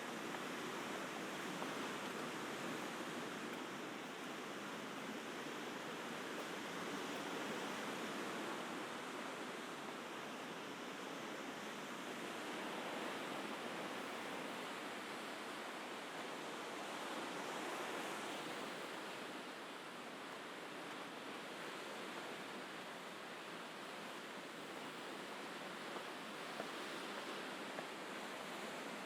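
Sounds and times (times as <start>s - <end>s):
sea waves washing on shore: 0.0s - 29.0s.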